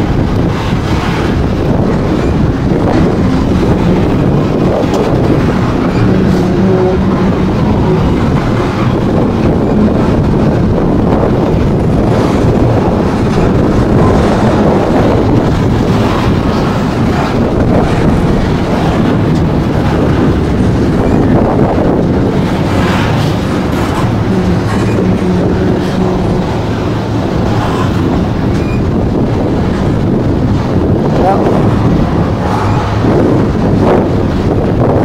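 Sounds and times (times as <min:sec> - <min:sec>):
train wheels rumbling on rails: 0:00.0 - 0:35.0
wheels clicking over rail joints: 0:00.0 - 0:35.0.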